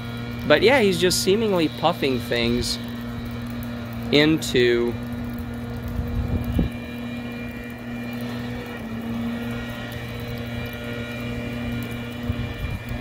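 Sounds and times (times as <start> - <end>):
leaf blower engine droning: 0.0 - 13.0.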